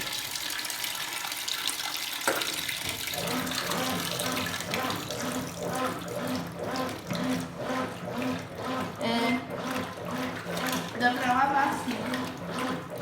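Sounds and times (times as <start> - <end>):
washing machine motor humming: 0.0 - 13.0
water sloshing in tub: 0.0 - 13.0.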